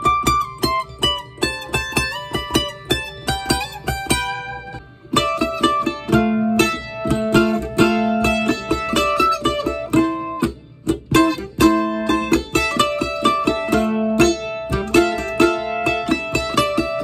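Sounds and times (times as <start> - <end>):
mandolin picking single notes: 0.0 - 17.0.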